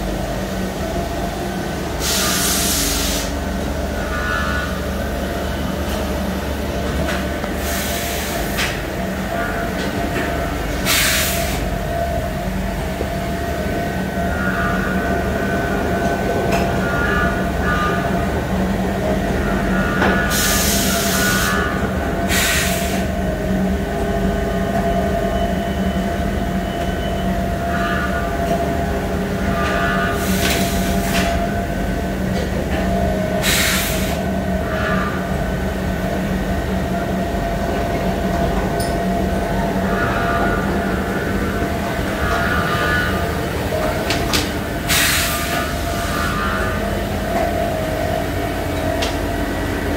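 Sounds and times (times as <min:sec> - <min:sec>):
machine mechanical hum and whine: 0:00.0 - 0:49.9.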